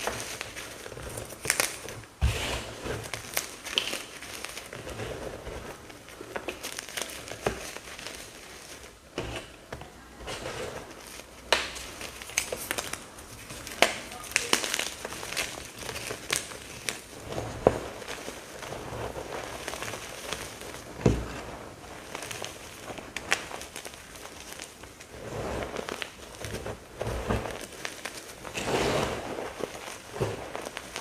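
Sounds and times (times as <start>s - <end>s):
chalk being crushed: 0.0s - 9.6s, 10.2s - 31.0s.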